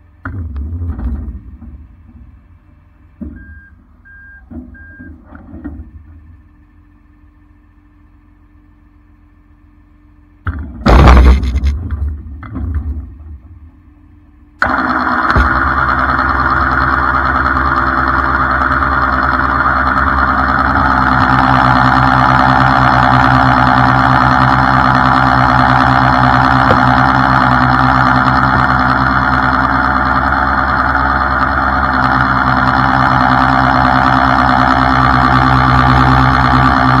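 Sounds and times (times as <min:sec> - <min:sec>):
tow truck engine running: 0:00.0 - 0:37.0.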